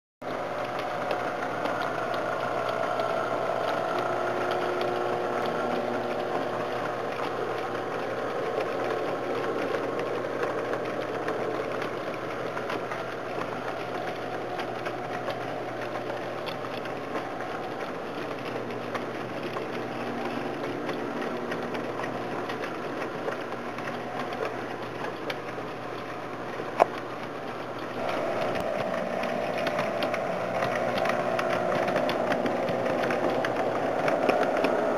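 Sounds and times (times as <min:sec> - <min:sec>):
model train mechanical hum: 0:00.2 - 0:34.9
wheels clicking over rails: 0:00.2 - 0:34.9.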